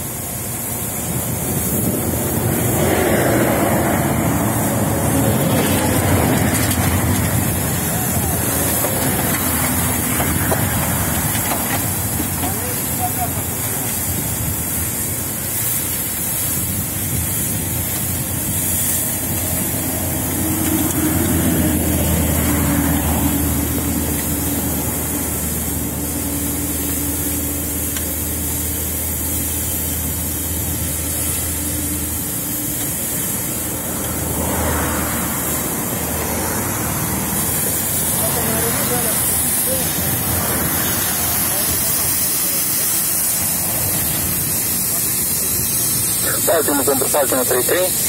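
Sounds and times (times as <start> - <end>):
engine drone: 0.0 - 48.0
fire hose spraying water: 0.0 - 48.0
hiss of spray and steam: 0.0 - 48.0.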